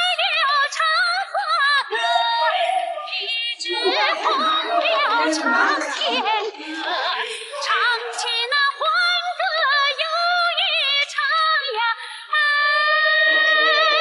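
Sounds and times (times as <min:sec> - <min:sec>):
woman singing with vibrato: 0:00.0 - 0:14.0.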